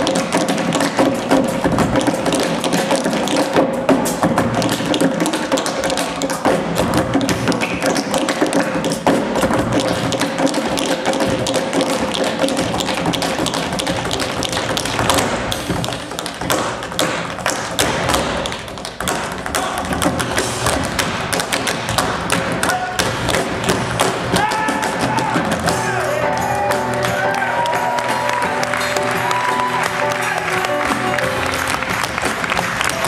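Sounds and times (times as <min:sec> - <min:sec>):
tap shoes striking stage floor: 0:00.0 - 0:33.0.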